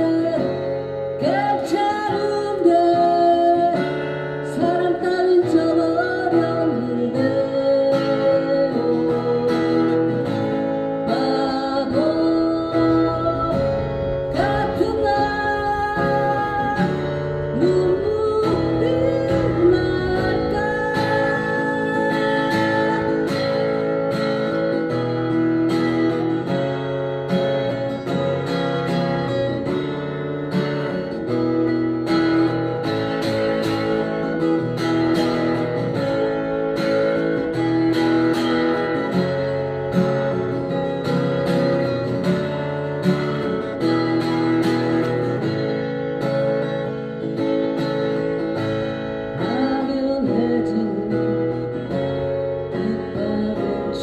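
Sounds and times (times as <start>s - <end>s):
slow guitar ballad: 0.0s - 54.0s.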